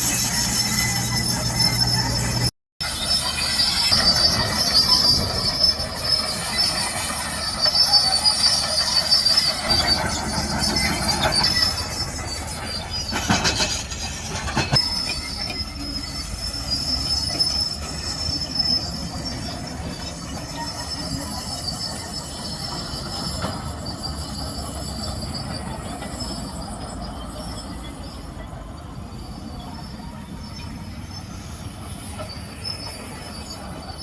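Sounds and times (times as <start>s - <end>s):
high-pitched metallic squeal: 0.0s - 34.0s.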